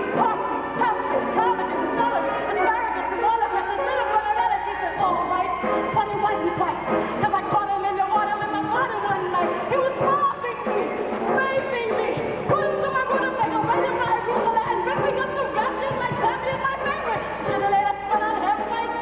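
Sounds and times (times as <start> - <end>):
pit orchestra playing: 0.0 - 19.0.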